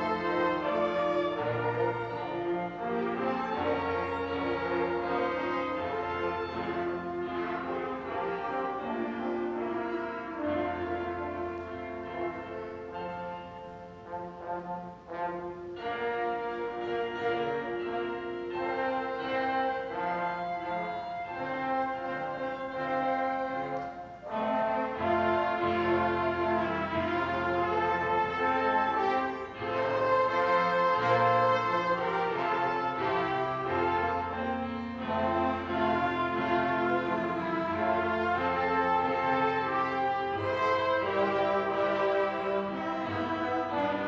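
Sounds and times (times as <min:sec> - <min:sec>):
strings and brass playing chords: 0:00.0 - 0:44.0.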